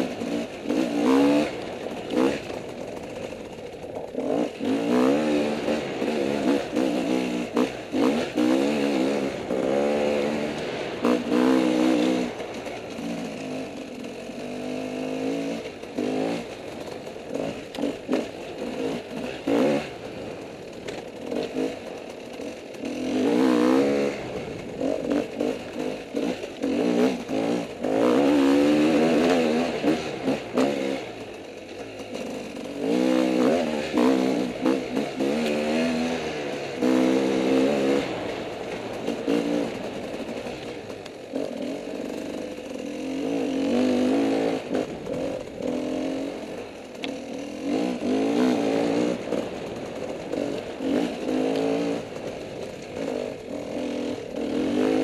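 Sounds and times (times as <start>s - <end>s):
off-road motorcycle engine: 0.0s - 55.0s.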